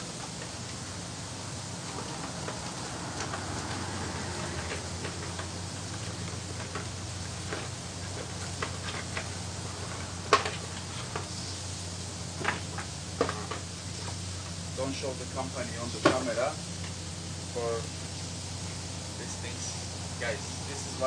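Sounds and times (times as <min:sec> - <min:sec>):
hot dogs sizzling on griddle: 0:00.0 - 0:21.0
steady low hum: 0:00.0 - 0:21.0.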